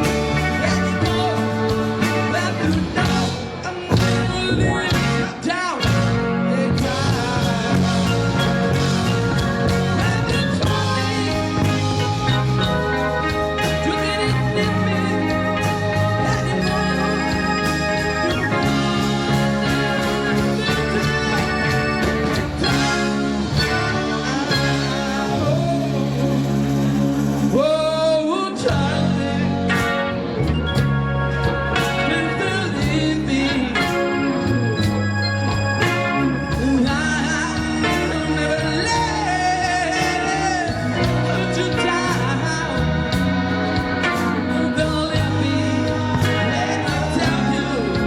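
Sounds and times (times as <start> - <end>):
rock song with singing and guitar: 0.0 - 48.0.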